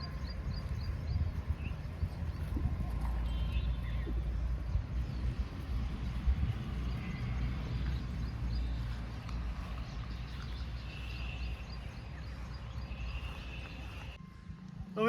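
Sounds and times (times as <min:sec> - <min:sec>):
high bird calls: 0:00.0 - 0:14.2
low rumble: 0:00.0 - 0:14.8.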